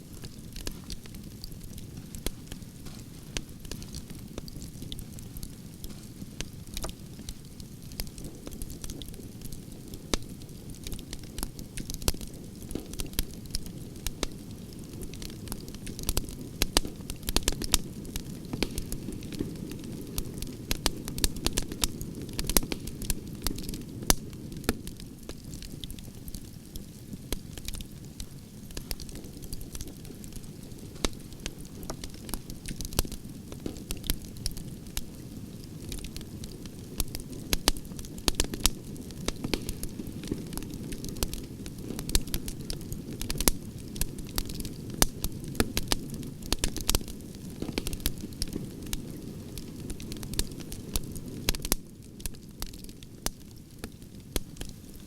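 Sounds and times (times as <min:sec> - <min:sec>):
wood crackling and popping: 0:00.0 - 0:55.0.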